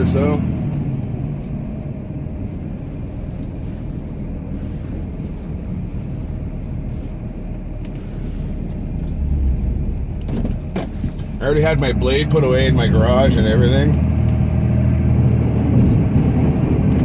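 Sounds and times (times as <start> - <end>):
diesel engine low rumble: 0.0 - 17.0.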